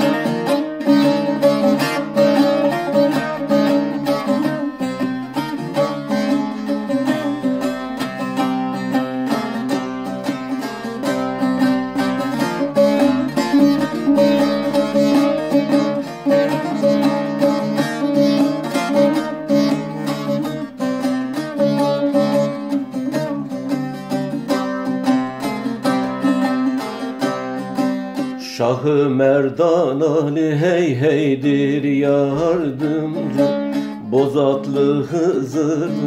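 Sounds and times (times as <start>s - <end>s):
long-necked lute strummed: 0.0s - 36.0s.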